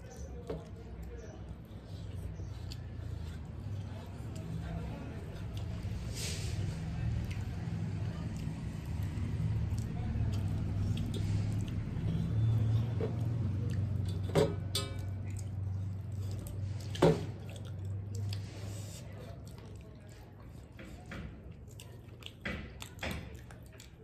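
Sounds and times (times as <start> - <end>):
chewing: 0.0 - 24.0
wet squishing of food mixed by hand: 0.0 - 24.0.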